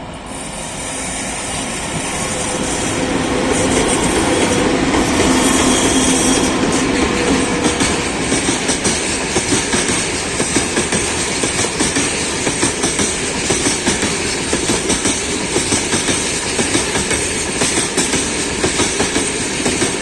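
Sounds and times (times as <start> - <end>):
freight train wheels clattering: 1.2 - 20.0.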